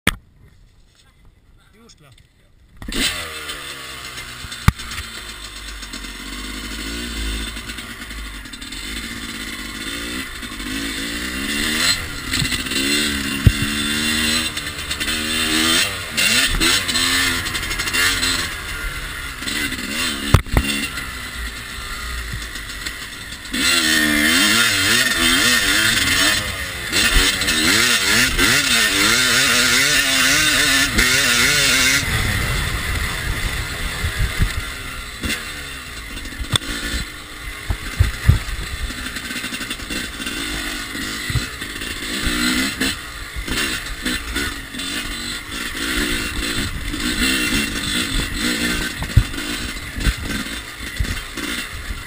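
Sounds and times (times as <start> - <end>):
dirt bike engine revving: 1.8 - 52.0.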